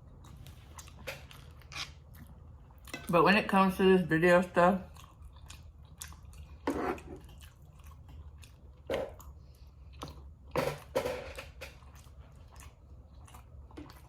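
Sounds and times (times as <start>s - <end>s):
close-miked chewing: 0.0s - 3.2s, 4.4s - 10.9s, 11.6s - 14.0s.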